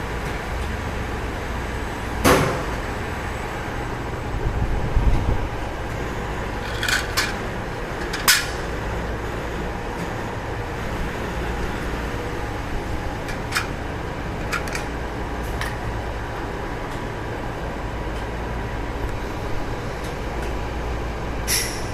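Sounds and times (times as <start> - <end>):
machine mechanical hum: 0.0 - 21.9.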